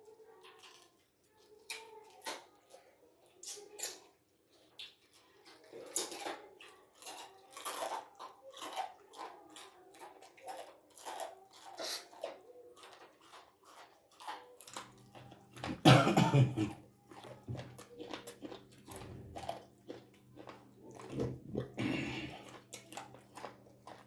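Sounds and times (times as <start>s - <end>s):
person chewing bones: 3.4s - 24.0s.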